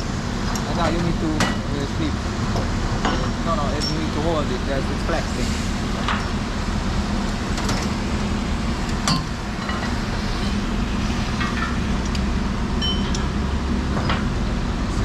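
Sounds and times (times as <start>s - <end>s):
construction machinery engine rumble: 0.0s - 15.0s.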